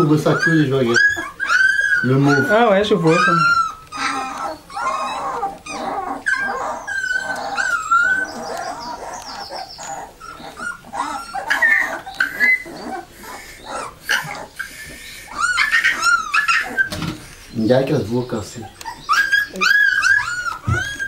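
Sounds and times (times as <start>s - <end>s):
puppies whining and squeaking: 0.0s - 21.0s.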